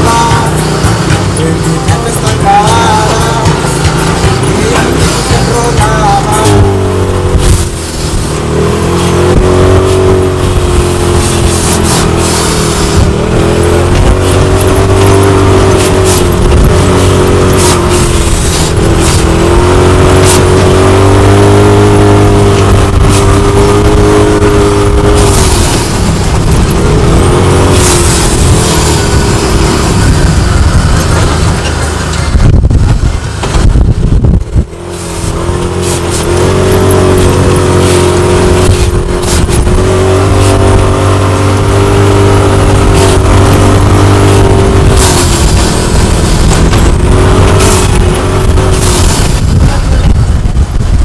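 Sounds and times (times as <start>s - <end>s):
utility vehicle engine running: 0.0s - 51.0s.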